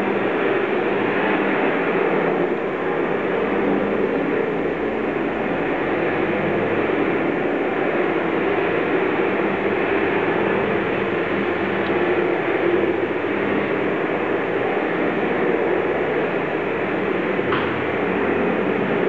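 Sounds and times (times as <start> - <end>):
loud steady rushing noise: 0.0 - 19.0.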